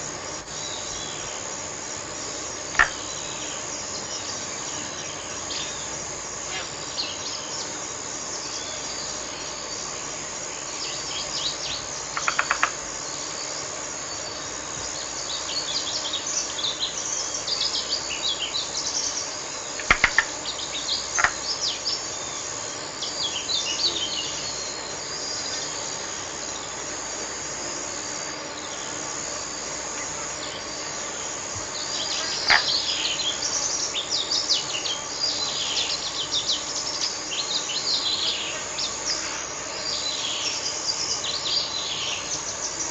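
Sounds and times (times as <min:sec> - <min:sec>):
small birds chirping: 0:00.0 - 0:26.8, 0:28.3 - 0:42.9
high insect drone: 0:00.0 - 0:42.9.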